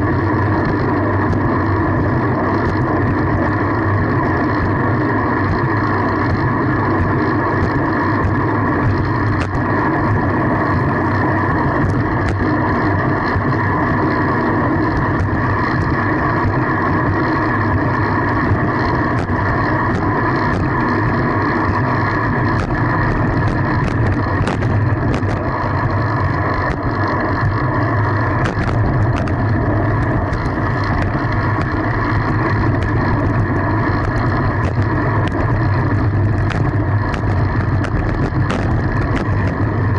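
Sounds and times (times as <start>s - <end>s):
bicycle tyres rolling: 0.0s - 39.9s.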